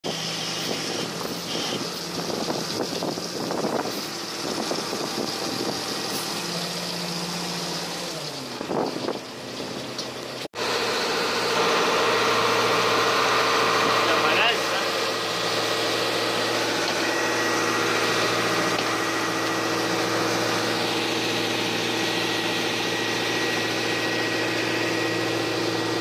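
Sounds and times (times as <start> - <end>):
boat engine running: 0.1 - 26.0.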